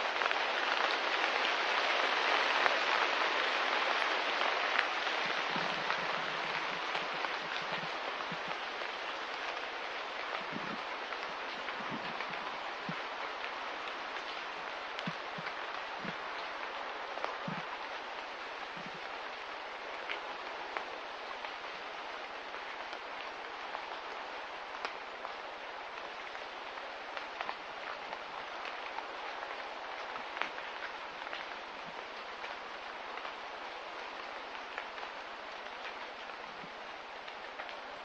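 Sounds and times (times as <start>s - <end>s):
light rain hissing: 0.0s - 38.0s.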